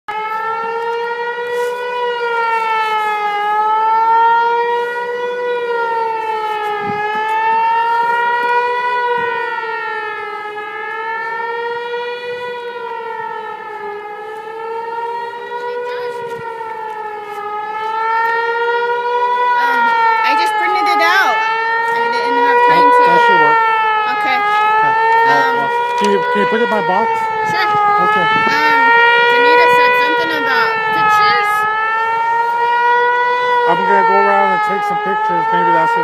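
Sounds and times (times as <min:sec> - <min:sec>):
warning siren wavering tone: 0:00.1 - 0:36.0.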